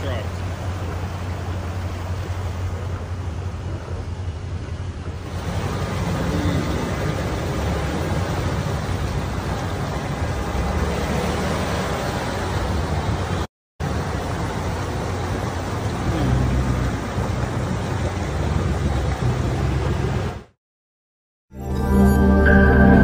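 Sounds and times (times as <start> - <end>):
car engines running: 0.0 - 20.5
water sloshing: 0.0 - 20.5.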